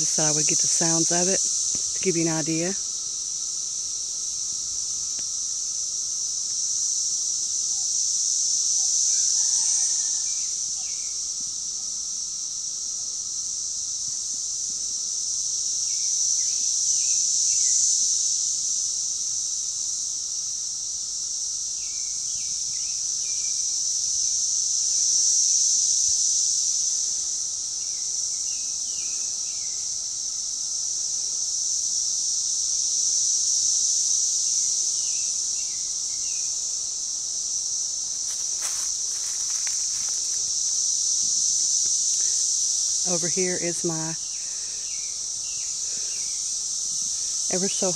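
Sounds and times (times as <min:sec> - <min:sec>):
cicadas buzzing drone: 0:00.0 - 0:47.9.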